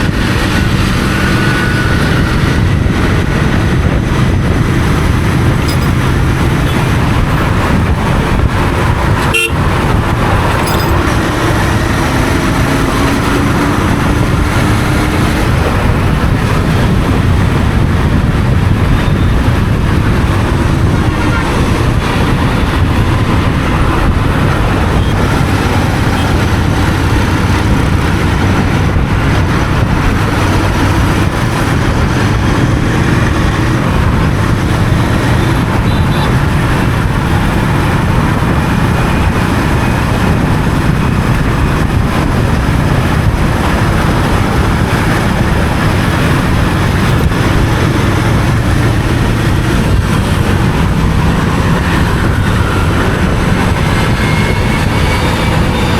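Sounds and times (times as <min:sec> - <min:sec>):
motorcycle engine cruising: 0:00.0 - 0:55.9
road and wind noise: 0:00.0 - 0:55.9.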